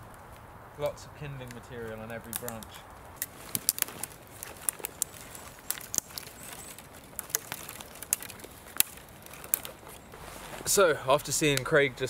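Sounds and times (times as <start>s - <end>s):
dry twigs snapping: 0.0s - 11.8s.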